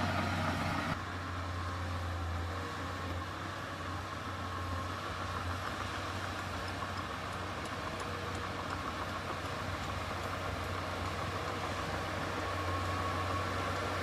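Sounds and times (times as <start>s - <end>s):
heavy diesel engine running: 0.0s - 2.8s, 3.4s - 14.0s.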